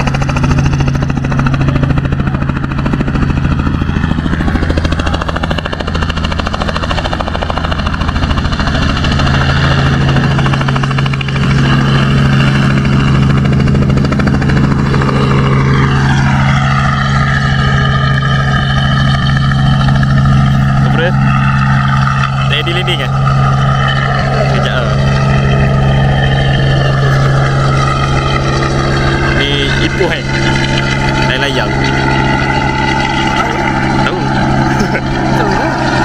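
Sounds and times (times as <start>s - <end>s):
helicopter engine: 0.0s - 36.0s
helicopter rotor beating: 0.0s - 36.0s.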